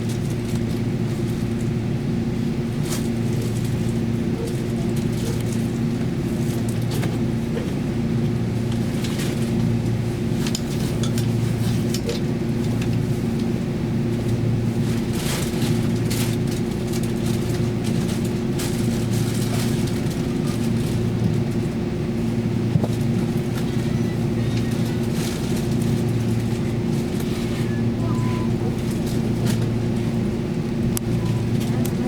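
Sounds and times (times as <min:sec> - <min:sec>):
train hum from inside: 0:00.0 - 0:32.0.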